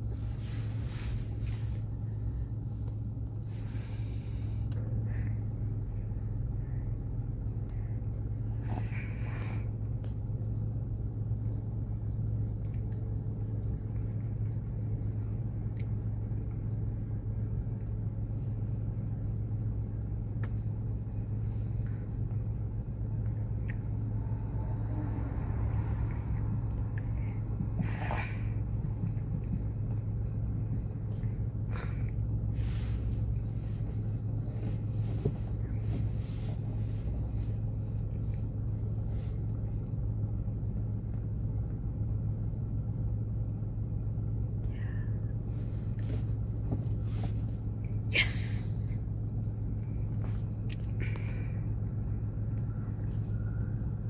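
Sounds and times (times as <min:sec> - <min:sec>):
cars idling: 0:00.0 - 0:54.0.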